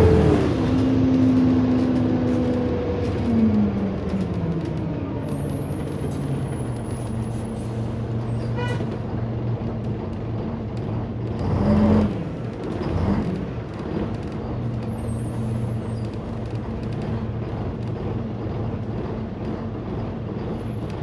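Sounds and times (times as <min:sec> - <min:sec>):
bus engine and road hum: 0:00.0 - 0:21.0.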